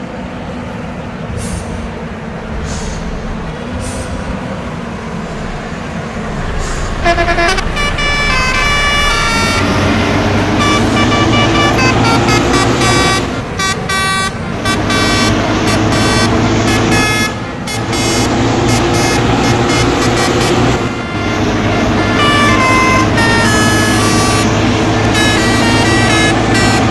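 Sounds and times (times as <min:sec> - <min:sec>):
diesel bus engine running: 0:00.0 - 0:26.9
musical air horn tune: 0:05.4 - 0:26.9.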